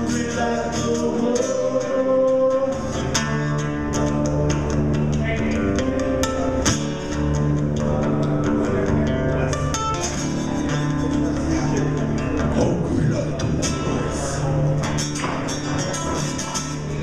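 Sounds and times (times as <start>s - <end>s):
bass guitar: 0.0s - 17.0s
guitar: 0.0s - 17.0s.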